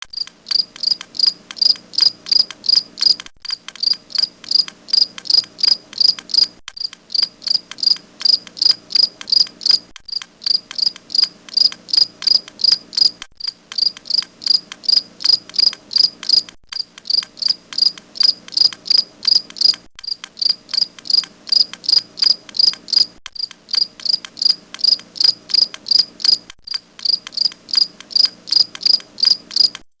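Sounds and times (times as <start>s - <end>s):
cricket chirping: 0.1s - 29.8s.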